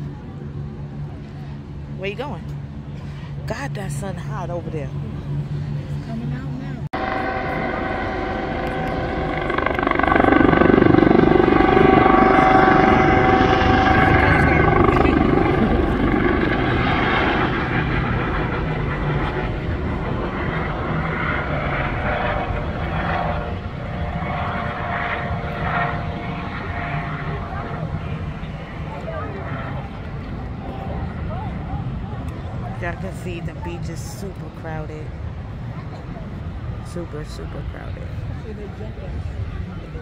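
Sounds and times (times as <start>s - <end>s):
military aircraft engine passing over: 0.0s - 40.0s.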